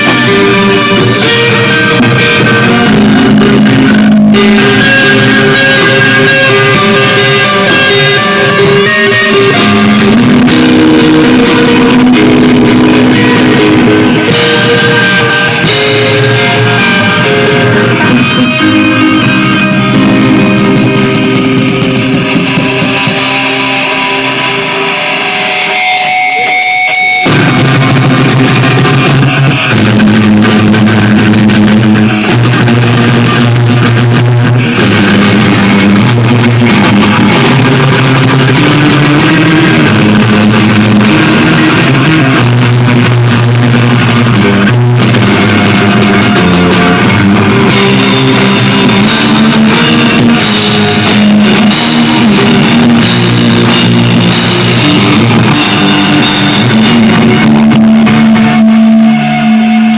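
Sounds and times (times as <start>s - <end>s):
heavy rock band playing: 0.0s - 59.9s.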